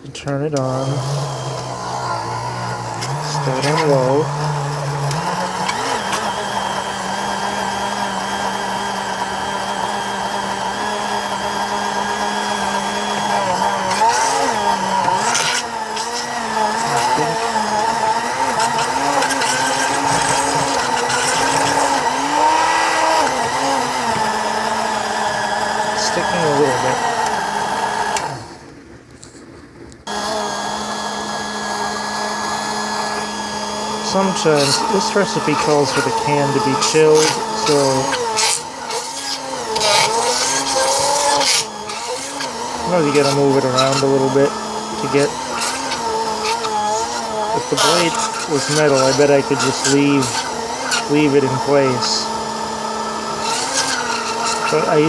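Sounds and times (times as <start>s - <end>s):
drink mixer motor humming: 0.0s - 55.0s.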